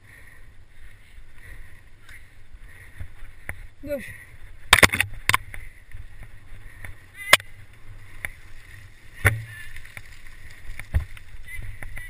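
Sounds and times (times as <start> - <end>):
bike tyres rumbling on dirt: 0.0 - 12.0.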